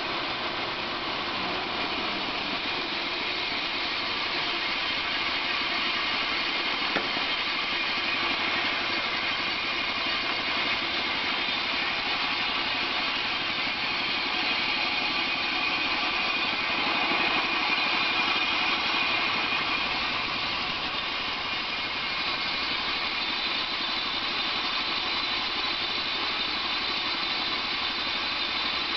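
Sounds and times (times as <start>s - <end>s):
band sawmill cutting a log: 0.0s - 28.9s.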